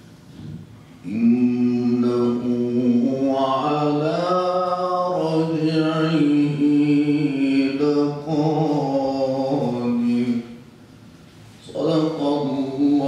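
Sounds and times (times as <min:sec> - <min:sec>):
man reciting melodically: 0:01.0 - 0:10.6, 0:11.6 - 0:13.0.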